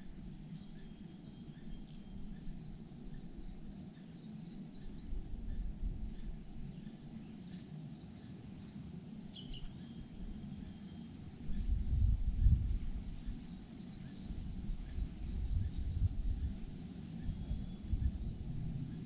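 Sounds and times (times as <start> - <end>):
faint distant birds chirping: 0.0 - 19.0
low background rumble: 0.0 - 19.0.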